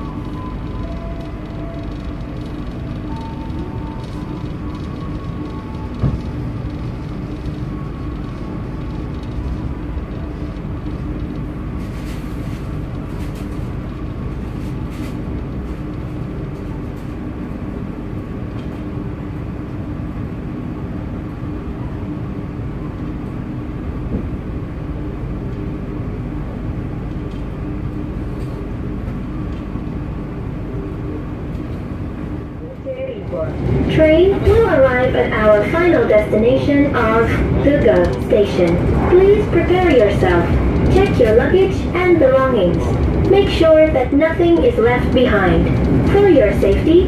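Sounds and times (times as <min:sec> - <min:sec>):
steady hum: 0:00.0 - 0:47.0
train wheels rumbling on rails: 0:00.0 - 0:47.0.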